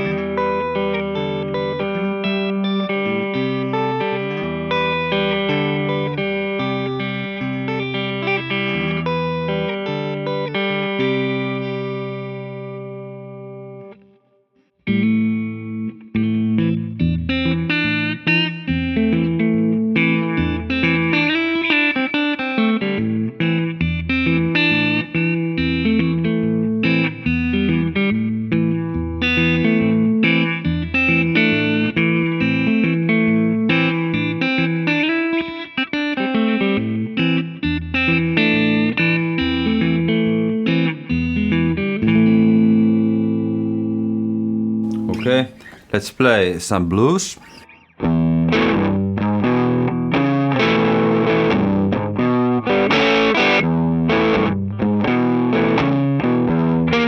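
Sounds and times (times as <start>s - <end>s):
fingerstyle electric guitar: 0.0s - 14.1s, 14.8s - 57.0s.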